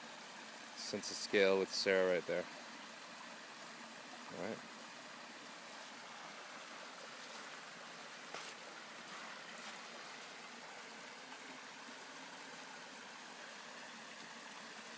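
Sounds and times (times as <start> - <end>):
water rushing over rocks: 0.0 - 14.9.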